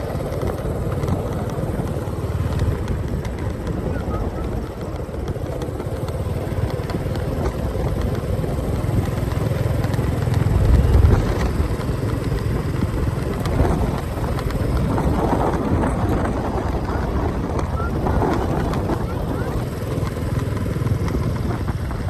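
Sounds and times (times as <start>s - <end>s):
motorcycle engine rumble: 0.0s - 22.0s.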